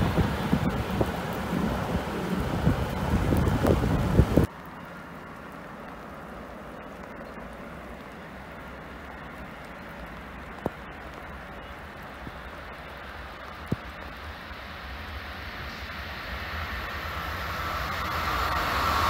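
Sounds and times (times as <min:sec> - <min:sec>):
rain hissing on a platform: 0:00.0 - 0:19.0.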